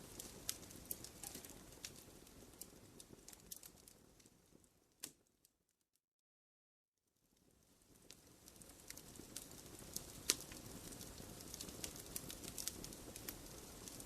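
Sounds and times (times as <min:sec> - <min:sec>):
wood fire crackling: 0:00.0 - 0:05.5, 0:07.2 - 0:14.0.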